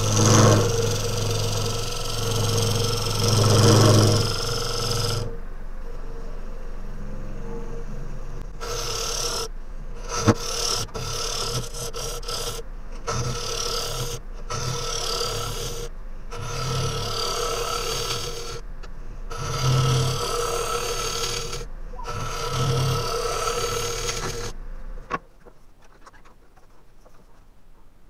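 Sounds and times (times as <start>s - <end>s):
tool scraping wood: 0.0s - 5.4s, 8.4s - 18.6s, 19.3s - 27.5s
lathe humming: 0.0s - 25.0s.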